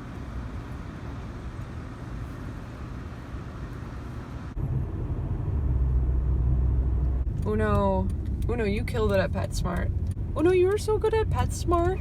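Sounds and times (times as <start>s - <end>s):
road rumble inside moving car: 0.0s - 12.0s
traffic rumble: 0.0s - 12.0s.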